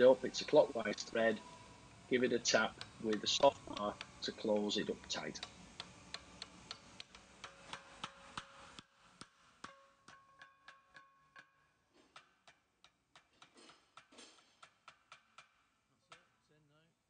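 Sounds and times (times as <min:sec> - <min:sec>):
hammer tapping on metal: 0:02.6 - 0:16.4.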